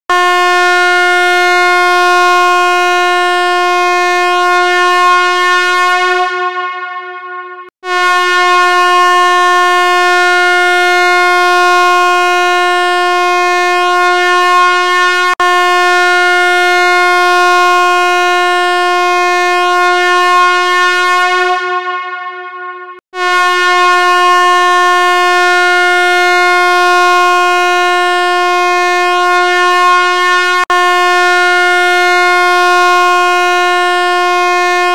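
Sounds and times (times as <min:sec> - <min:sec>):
loud buzzy horn-like tone: 0:00.1 - 0:34.9.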